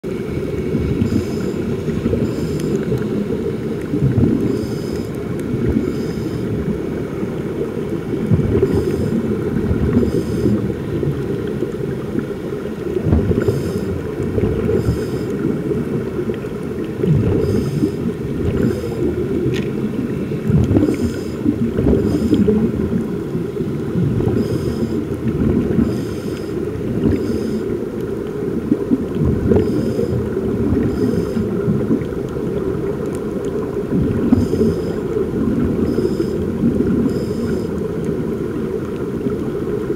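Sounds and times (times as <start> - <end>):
muffled underwater rumble: 0.0 - 39.9.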